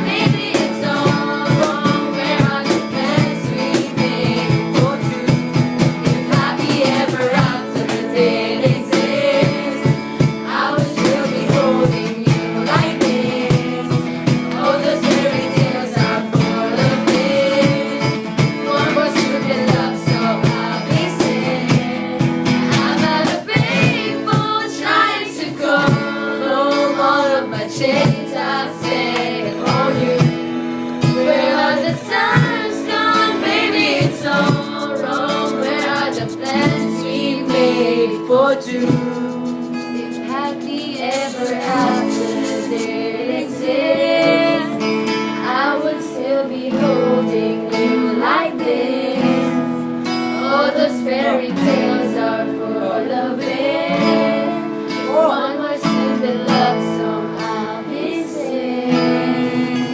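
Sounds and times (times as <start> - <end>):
person singing: 0.0 - 59.9.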